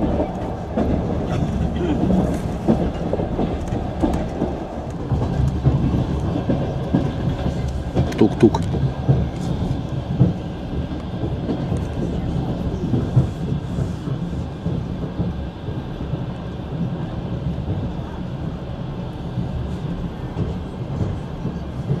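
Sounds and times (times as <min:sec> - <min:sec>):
train carriage rumble: 0:00.0 - 0:22.0.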